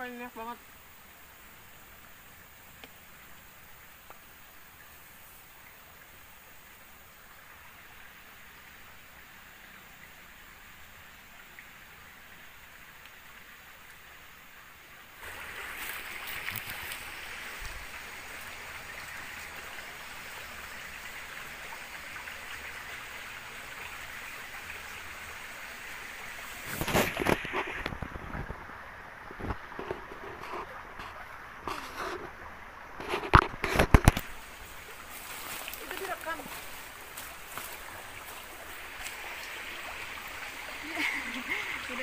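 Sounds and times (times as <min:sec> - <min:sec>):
faint steady hiss: 0:00.0 - 0:42.0
forest stream running: 0:00.0 - 0:42.0.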